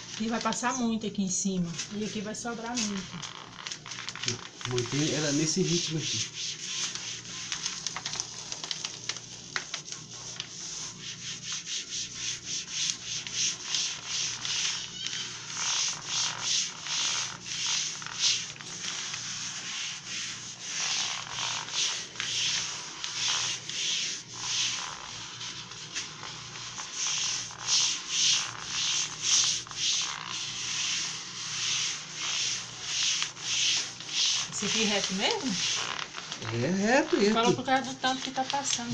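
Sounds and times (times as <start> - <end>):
hand rubbing contact paper on glass: 0.0 - 38.9.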